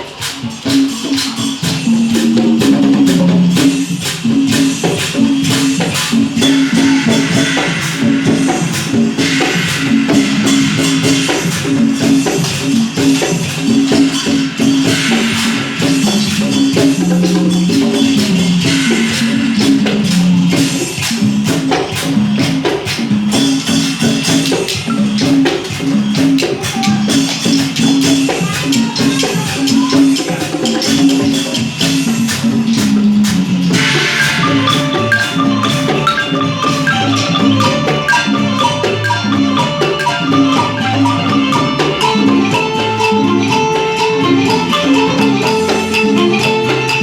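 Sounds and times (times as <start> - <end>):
clicking and rattling percussion: 0.0 - 47.0
wooden xylophone melody: 0.9 - 21.8, 23.3 - 47.0.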